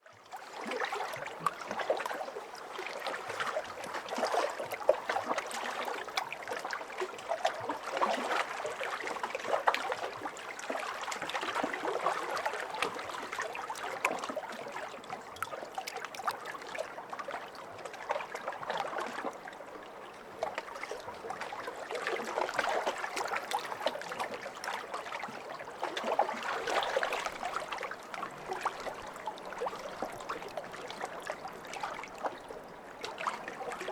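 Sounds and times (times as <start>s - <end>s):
lake waves lapping and splashing: 0.1s - 33.9s.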